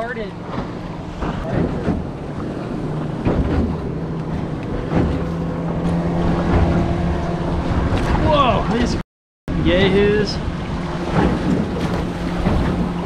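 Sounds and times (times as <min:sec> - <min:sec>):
moving water: 0:00.0 - 0:13.0
outboard motor droning: 0:00.0 - 0:13.0
wind buffeting microphone: 0:00.0 - 0:13.0.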